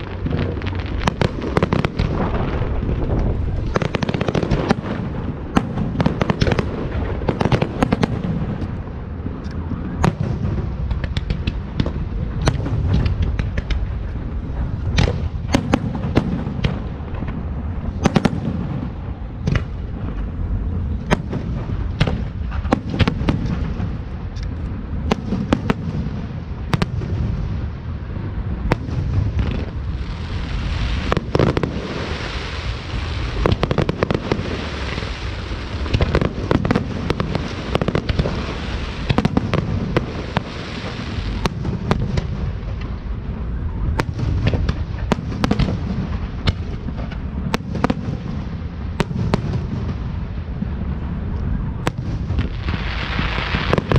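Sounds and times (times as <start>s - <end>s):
hissing crackle: 0.0s - 18.2s, 27.6s - 53.9s
fireworks bangs and cracks: 0.0s - 53.9s
low rumble of bursts: 0.0s - 53.9s.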